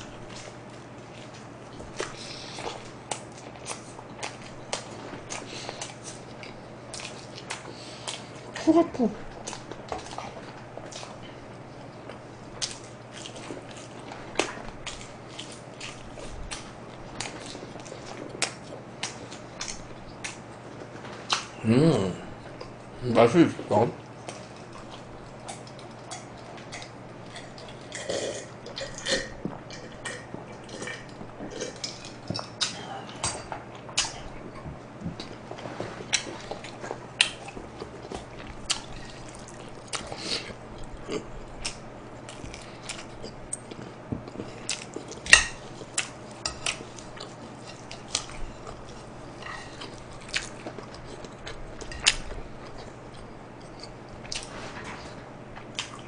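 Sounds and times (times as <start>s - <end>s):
chewing and mouth smacks: 0.0s - 8.6s, 9.3s - 21.6s, 24.0s - 54.5s, 55.6s - 56.0s.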